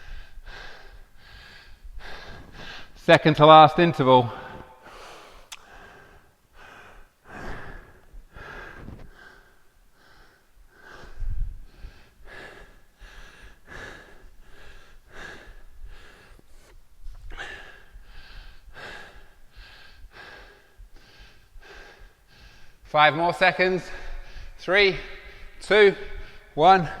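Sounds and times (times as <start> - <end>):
man breathing hard: 0.0 - 3.0, 4.3 - 22.9, 23.8 - 27.0.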